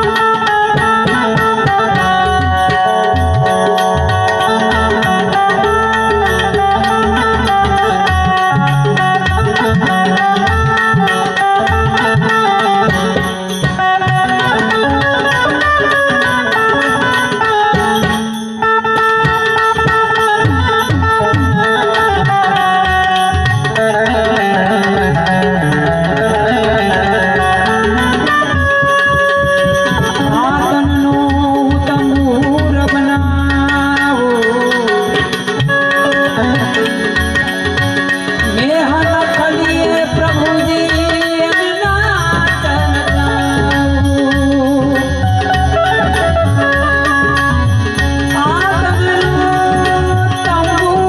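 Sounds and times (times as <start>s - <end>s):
harmonium melody: 0.0s - 51.0s
tabla drum strokes: 0.0s - 51.0s.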